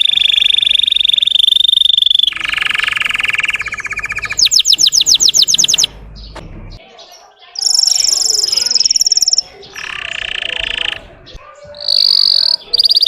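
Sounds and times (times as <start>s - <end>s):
canary singing trills: 0.0s - 13.0s.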